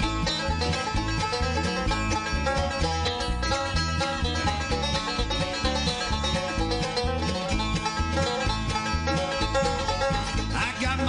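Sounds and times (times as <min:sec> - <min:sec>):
acoustic guitar picking: 0:00.0 - 0:11.0
banjo picking: 0:00.0 - 0:11.0
bass line: 0:00.0 - 0:11.0.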